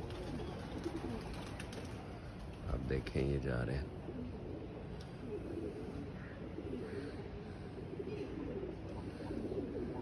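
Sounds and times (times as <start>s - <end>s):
pigeons cooing: 0.0s - 2.1s, 4.0s - 10.0s.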